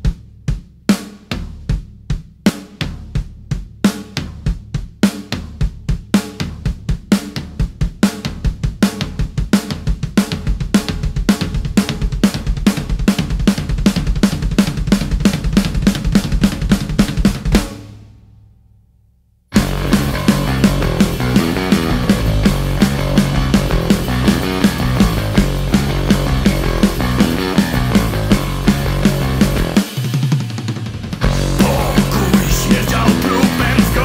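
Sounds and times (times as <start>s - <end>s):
rock drum kit playing: 0.0s - 18.2s, 19.5s - 34.0s.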